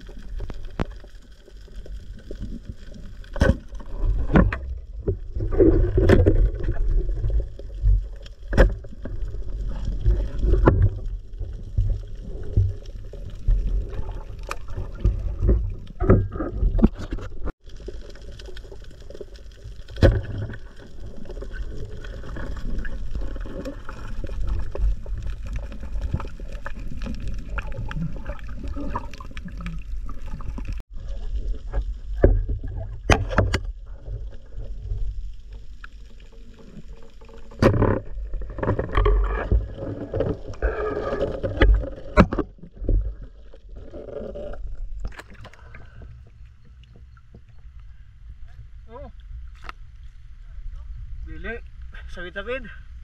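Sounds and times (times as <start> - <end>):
water sloshing and gurgling: 0.0 - 52.1.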